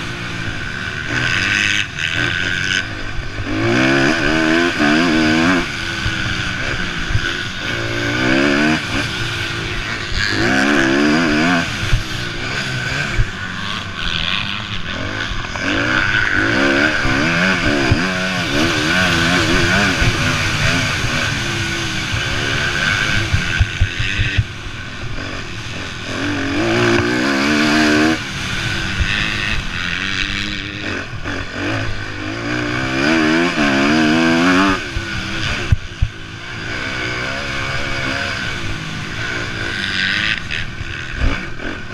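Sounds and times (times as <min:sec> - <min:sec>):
motocross bike engines revving: 0:00.0 - 0:41.9.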